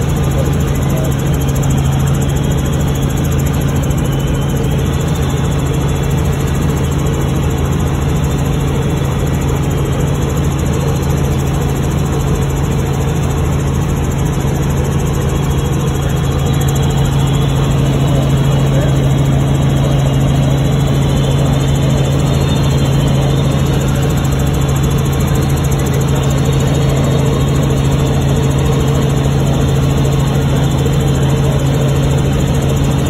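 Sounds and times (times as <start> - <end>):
helicopter engine and rotor noise: 0.0 - 33.0.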